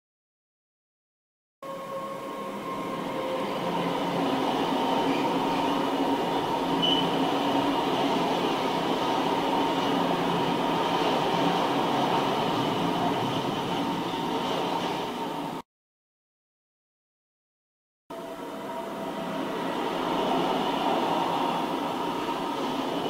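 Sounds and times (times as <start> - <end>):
freight train rumbling past: 1.6 - 15.6, 18.1 - 23.0.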